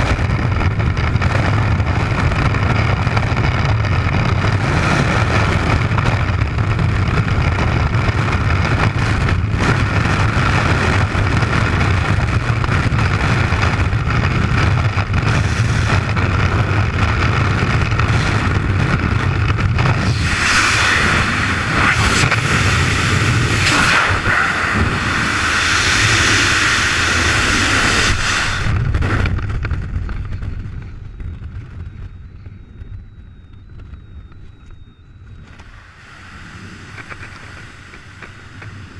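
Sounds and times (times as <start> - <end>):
freefall wind buffeting microphone: 0.0 - 38.9
heavy low rumble: 0.0 - 38.9.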